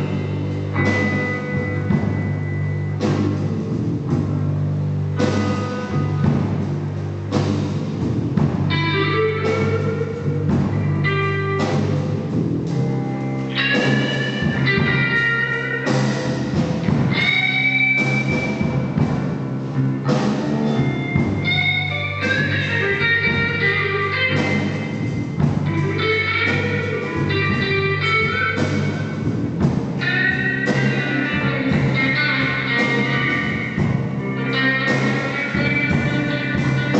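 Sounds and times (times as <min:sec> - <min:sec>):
bass: 0:00.0 - 0:36.9
blues guitar: 0:00.0 - 0:36.9
drum kit: 0:00.0 - 0:36.9.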